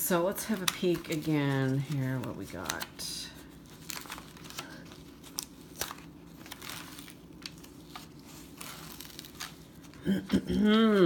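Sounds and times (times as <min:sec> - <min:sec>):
plastic sheet crinkling: 0:00.2 - 0:10.1.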